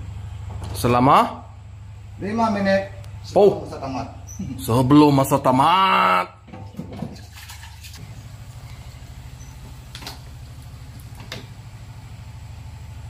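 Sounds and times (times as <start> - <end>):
low pulsing mechanical hum: 0.0 - 13.0.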